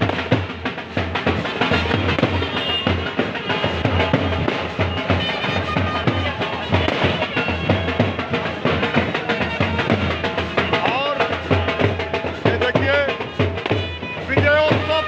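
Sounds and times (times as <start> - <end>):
loud music with heavy drum beat: 0.0 - 15.0.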